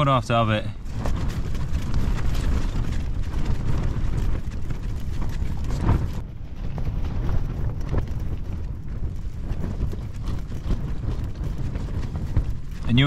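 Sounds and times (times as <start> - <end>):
tent fabric flapping in wind: 0.0 - 13.0
wind rumbling on microphone: 0.0 - 13.0.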